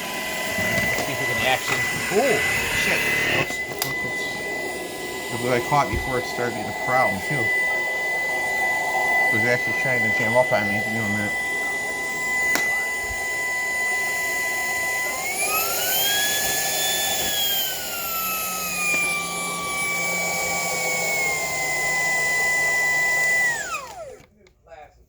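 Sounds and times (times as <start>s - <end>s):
cordless vacuum whining: 0.0s - 24.5s.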